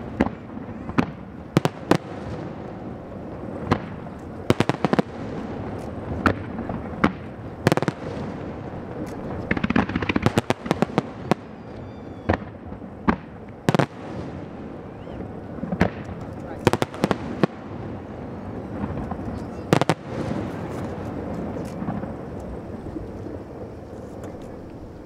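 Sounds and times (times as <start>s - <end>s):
fireworks booming and cracking: 0.0s - 25.0s.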